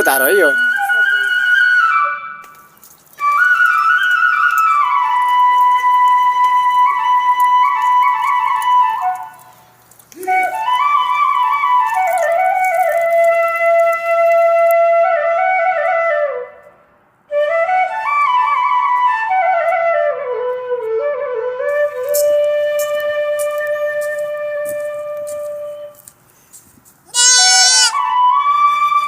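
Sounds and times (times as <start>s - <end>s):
flute melody: 0.0s - 16.7s, 17.3s - 26.1s, 27.6s - 29.0s.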